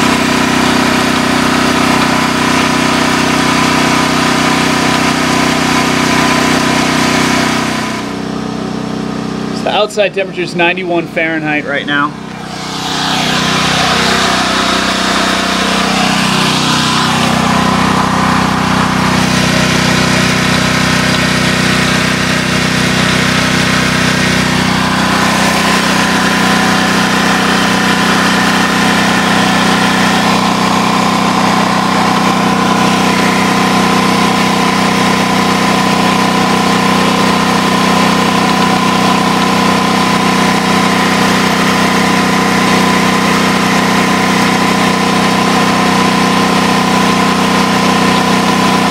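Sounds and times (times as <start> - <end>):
generator engine running: 0.0 - 48.9.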